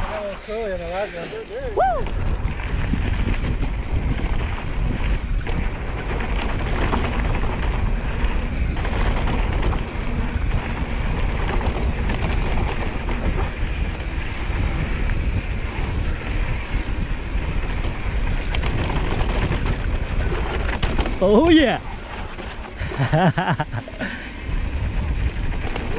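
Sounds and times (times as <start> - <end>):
bike rattling over bumps: 0.0 - 25.9
bike tyres on dirt trail: 0.0 - 25.9
wind buffeting microphone: 0.0 - 25.9.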